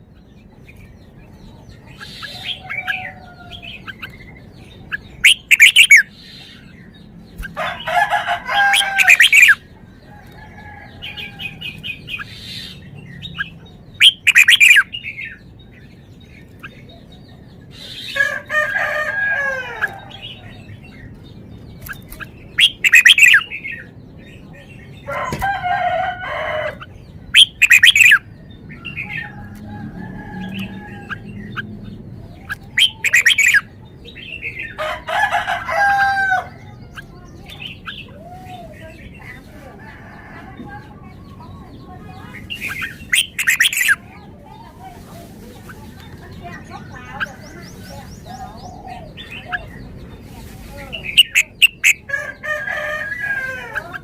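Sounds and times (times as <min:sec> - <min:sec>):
bird singing loud phrases: 0:00.0 - 0:54.0.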